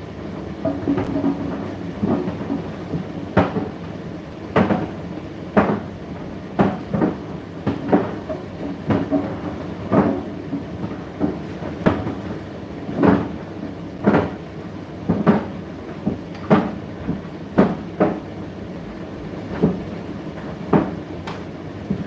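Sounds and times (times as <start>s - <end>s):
tumble dryer motor hum: 0.0s - 22.0s.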